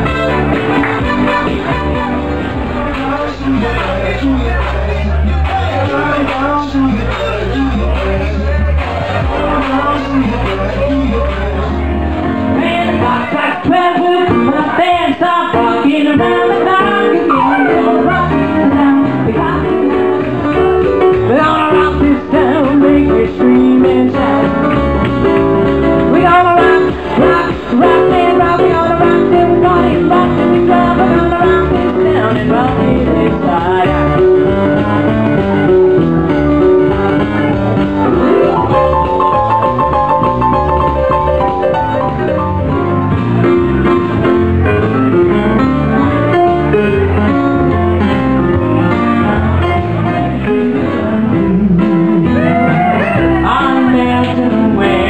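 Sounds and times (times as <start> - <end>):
electronic keyboard music: 0.0 - 13.3, 15.9 - 32.2, 34.0 - 53.4.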